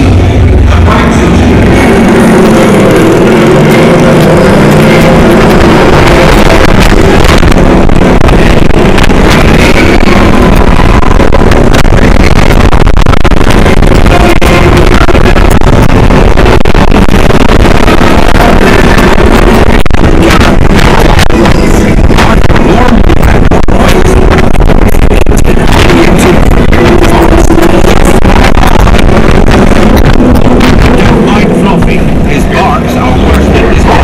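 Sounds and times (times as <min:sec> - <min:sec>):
wheels rumbling on steel track: 0:00.0 - 0:34.0.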